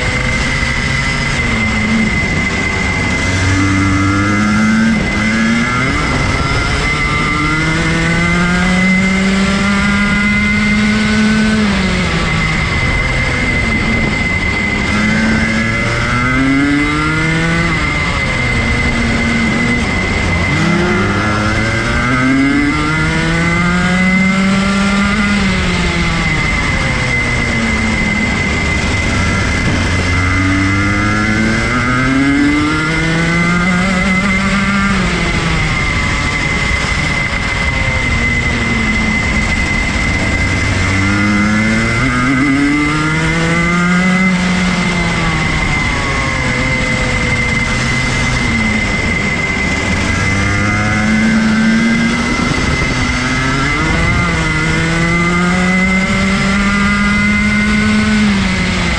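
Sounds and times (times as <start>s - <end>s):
kart engine revving: 0.0s - 58.9s
rush of noise: 0.0s - 58.9s
steady high whine: 0.0s - 58.9s.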